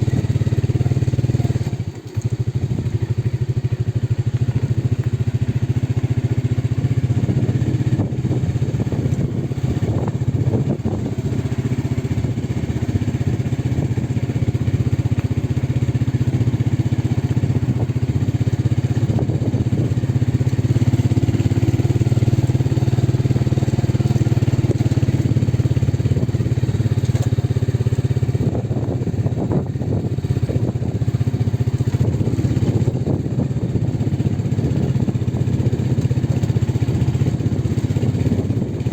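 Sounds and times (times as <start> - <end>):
road noise: 0.0 - 38.9
vehicle engine droning: 0.0 - 38.9.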